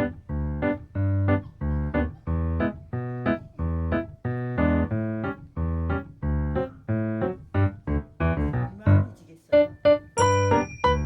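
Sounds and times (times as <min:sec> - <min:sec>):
bouncy piano tune: 0:00.0 - 0:11.0.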